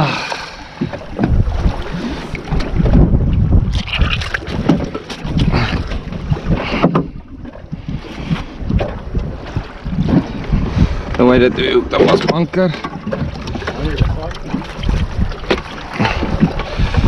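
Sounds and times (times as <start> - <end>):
water splashing: 0.0 - 17.0
wind buffeting microphone: 0.7 - 17.0.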